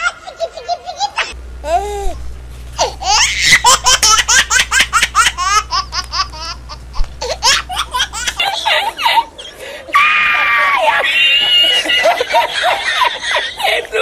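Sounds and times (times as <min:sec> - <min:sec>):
person laughing: 0:00.0 - 0:02.2, 0:02.8 - 0:14.0.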